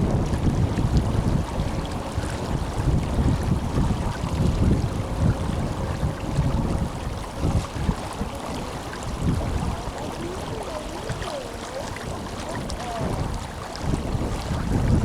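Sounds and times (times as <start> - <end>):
river water rushing and babbling: 0.0 - 15.0
wind buffeting microphone: 0.0 - 15.0.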